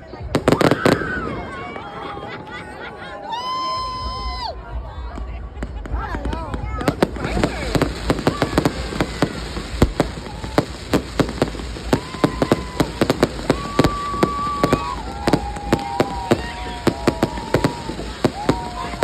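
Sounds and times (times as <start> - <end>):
fireworks cracks and bangs: 0.0 - 19.0
whistling fireworks: 0.0 - 19.0.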